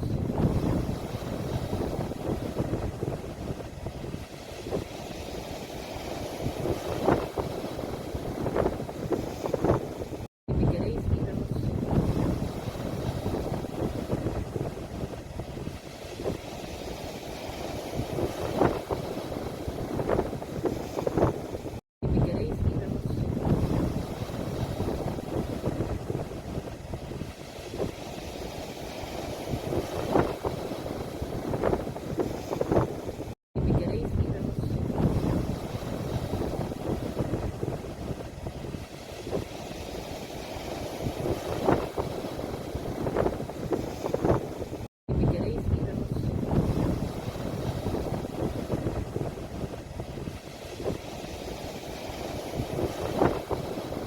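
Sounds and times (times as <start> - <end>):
sea waves washing ashore: 0.0 - 54.0
wind buffeting microphone: 0.0 - 54.0.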